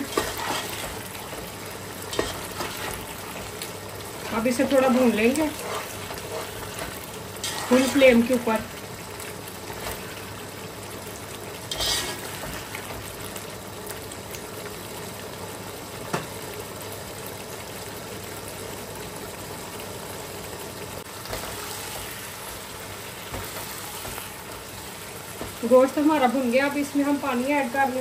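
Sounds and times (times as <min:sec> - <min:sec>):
meat sizzling in oil: 0:00.0 - 0:28.0.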